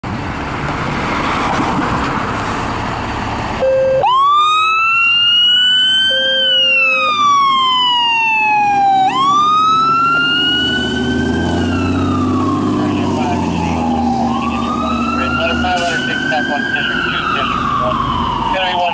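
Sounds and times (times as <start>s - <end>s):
fire engine diesel engine: 0.0s - 18.9s
wailing electronic siren: 3.6s - 18.9s.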